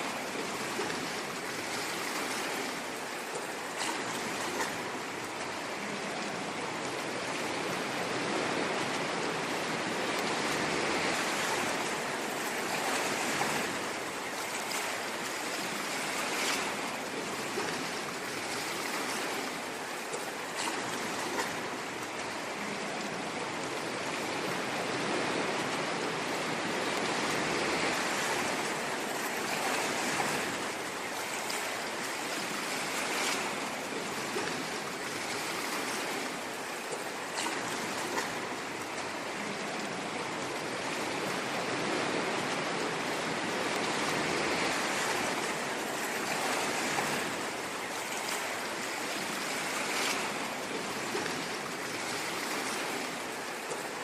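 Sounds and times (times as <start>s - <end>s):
faint water crackles: 0.0s - 54.0s
ocean waves washing on shore: 0.0s - 54.0s.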